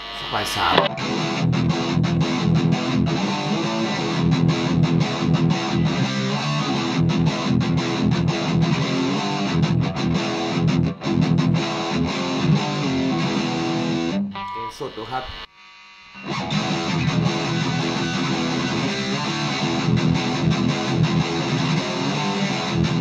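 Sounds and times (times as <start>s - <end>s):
overdriven electric guitar: 0.0s - 23.0s.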